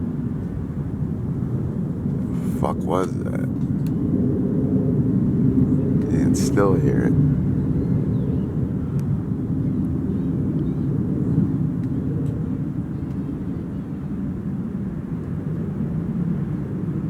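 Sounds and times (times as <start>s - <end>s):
jet-like rumble overhead: 0.0s - 17.0s.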